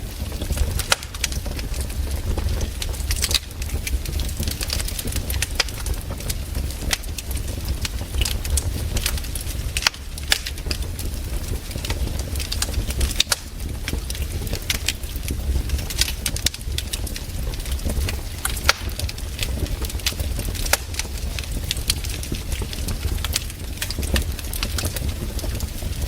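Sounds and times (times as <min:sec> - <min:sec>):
campfire crackles and pops: 0:00.0 - 0:26.0
campfire low rumble: 0:00.0 - 0:26.0.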